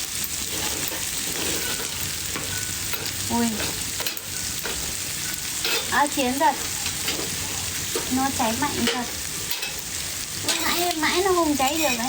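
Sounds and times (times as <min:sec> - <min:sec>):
wood fire hissing and crackling: 0:00.0 - 0:12.0.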